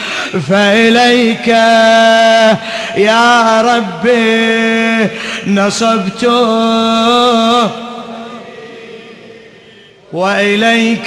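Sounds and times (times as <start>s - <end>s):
man chanting with echo: 0.0s - 11.0s.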